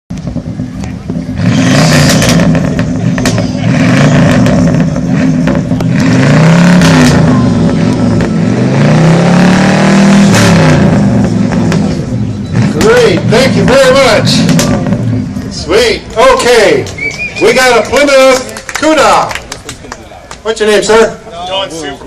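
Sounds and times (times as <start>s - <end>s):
car engine revving: 0.1s - 19.5s.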